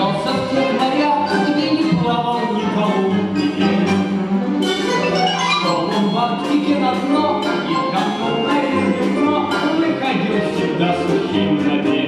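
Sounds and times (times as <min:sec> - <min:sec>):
folk string orchestra plucking: 0:00.0 - 0:12.0.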